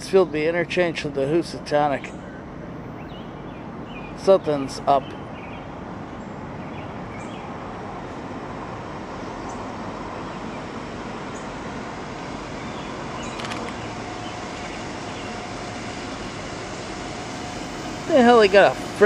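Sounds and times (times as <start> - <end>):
freight train rumble: 0.0 - 19.0.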